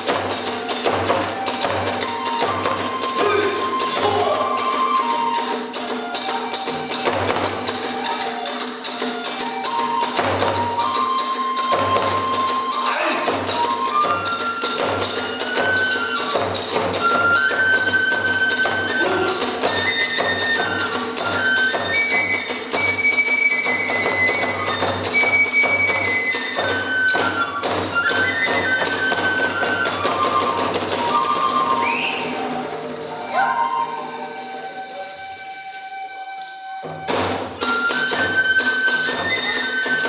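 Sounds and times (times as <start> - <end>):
fast drum beats: 0.0 - 33.7
bamboo flute melody: 0.0 - 40.0.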